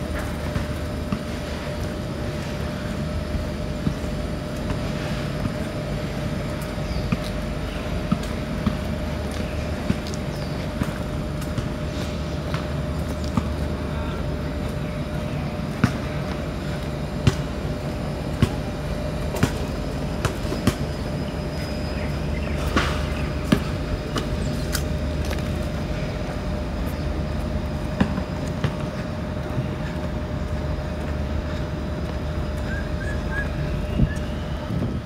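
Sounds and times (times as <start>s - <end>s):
vehicle rumble and hum: 0.0s - 35.0s.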